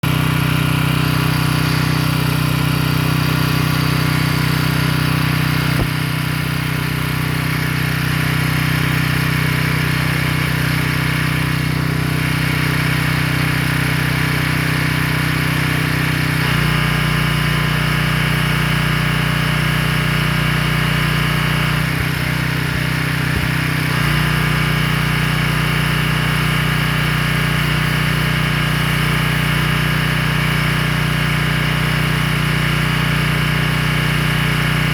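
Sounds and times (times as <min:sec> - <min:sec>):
small petrol engine running: 0:00.0 - 0:34.9.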